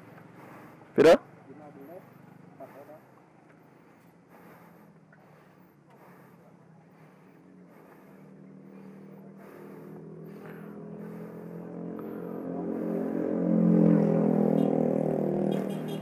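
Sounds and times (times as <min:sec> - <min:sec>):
vehicle engine passing: 0:00.0 - 0:16.0.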